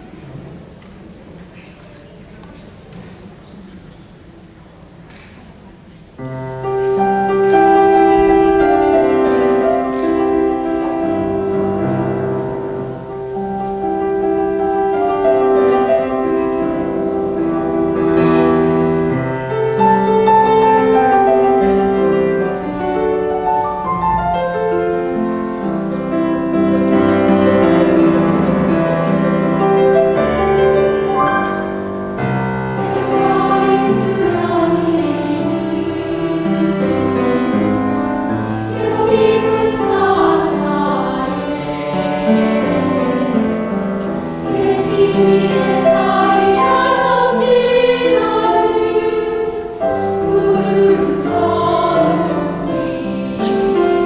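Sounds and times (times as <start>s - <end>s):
piano playing chords and melody: 6.3s - 54.0s.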